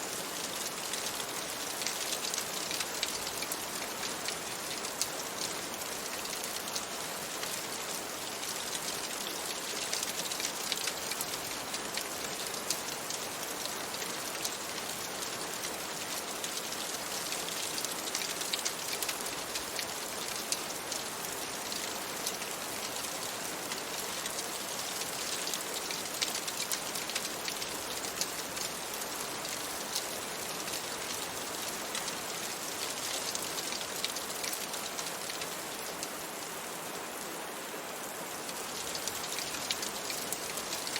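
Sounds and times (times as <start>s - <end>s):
rain on a window: 0.0s - 40.9s.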